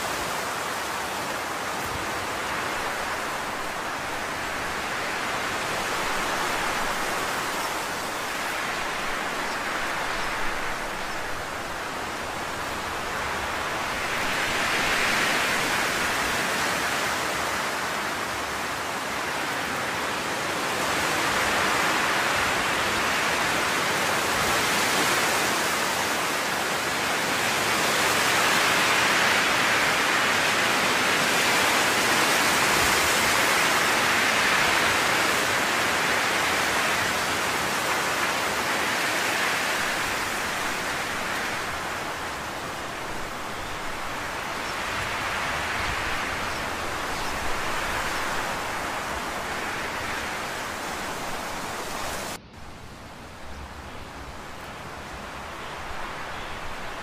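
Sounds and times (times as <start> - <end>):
steady rushing noise: 0.0 - 57.0.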